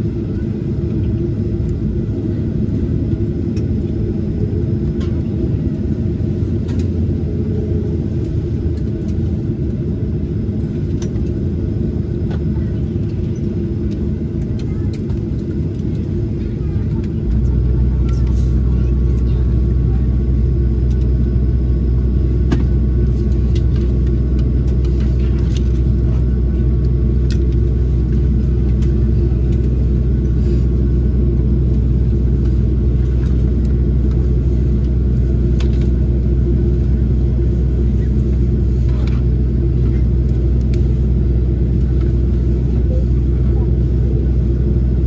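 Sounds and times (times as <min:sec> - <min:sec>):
airplane taxiing rumble: 0:00.0 - 0:45.0.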